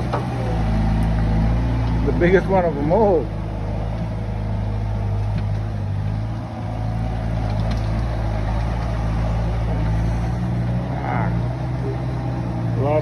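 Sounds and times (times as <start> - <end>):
track loader engine running: 0.0 - 13.0.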